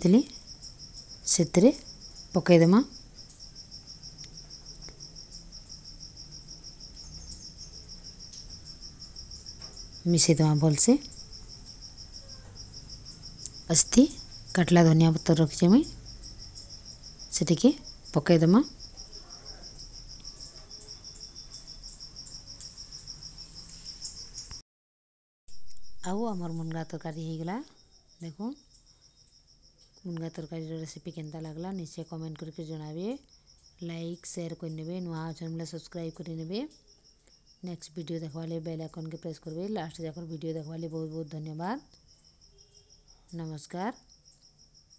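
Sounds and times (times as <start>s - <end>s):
cricket chirping: 0.0s - 24.6s, 25.5s - 44.9s.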